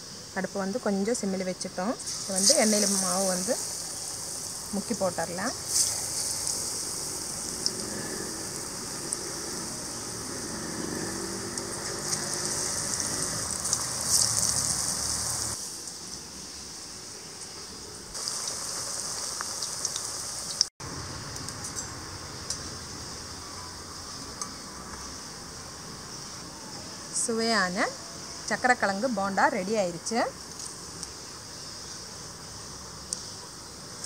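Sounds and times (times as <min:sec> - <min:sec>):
food deep-frying in hot oil: 0:00.4 - 0:34.0.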